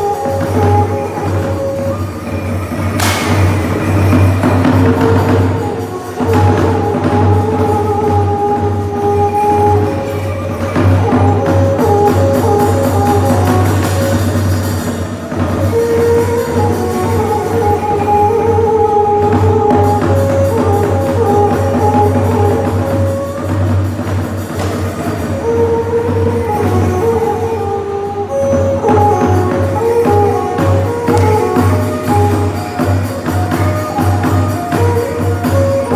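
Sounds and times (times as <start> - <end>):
percussion: 0.0 - 35.9.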